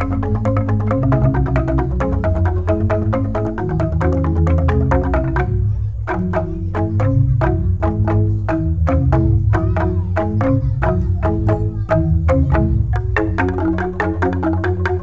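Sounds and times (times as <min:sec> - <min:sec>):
deep bamboo bass: 0:00.0 - 0:15.0
mallets striking bamboo tubes: 0:00.0 - 0:15.0.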